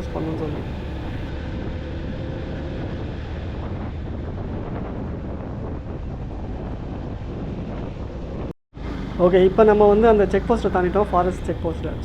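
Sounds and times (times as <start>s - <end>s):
motorcycle rumble: 0.0s - 12.0s
wind rushing over microphone: 0.0s - 12.0s.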